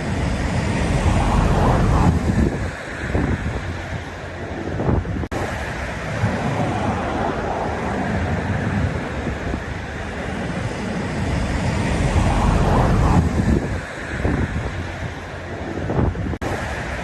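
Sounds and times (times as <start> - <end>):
sea waves washing ashore: 0.0 - 17.0
wind rumble on microphone: 0.0 - 17.0.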